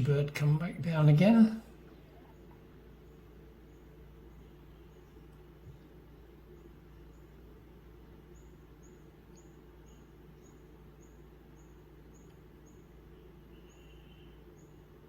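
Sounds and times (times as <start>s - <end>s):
faint low hum: 0.0s - 15.0s
small bird chirping: 1.8s - 15.0s.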